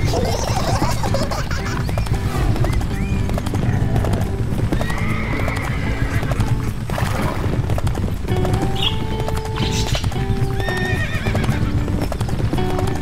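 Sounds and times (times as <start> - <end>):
background music: 0.0 - 13.0
galloping hooves: 0.0 - 13.0.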